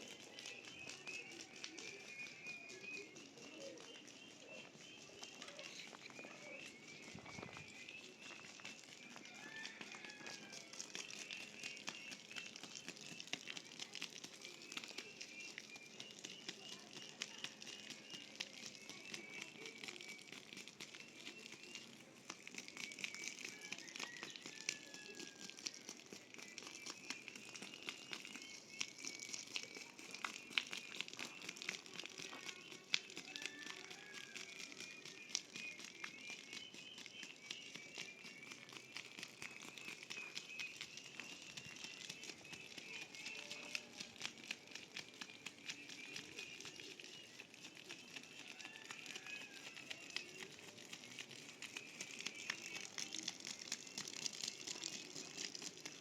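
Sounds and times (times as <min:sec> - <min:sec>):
birds chirping: 0:00.0 - 0:56.0
dry crackling and crinkling: 0:00.0 - 0:56.0.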